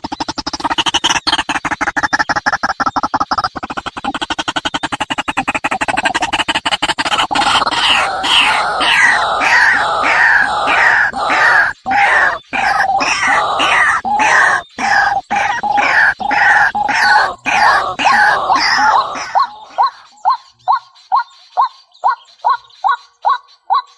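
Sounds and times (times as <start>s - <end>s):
animal harsh calls: 0.0s - 21.2s.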